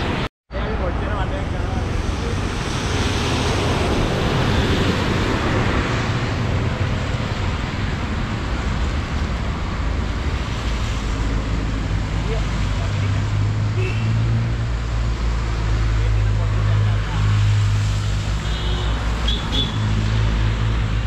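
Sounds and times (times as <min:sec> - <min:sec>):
flooded river rushing: 0:00.8 - 0:21.0.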